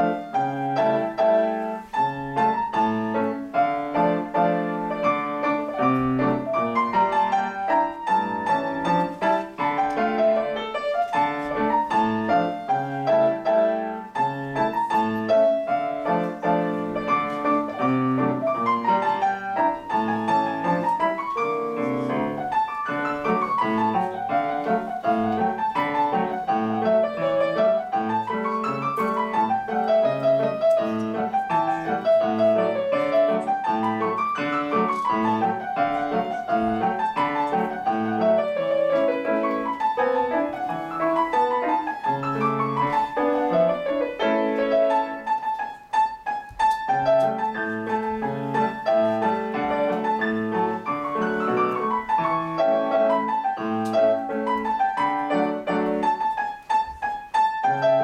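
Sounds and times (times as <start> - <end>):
grand piano playing: 0.0 - 58.0.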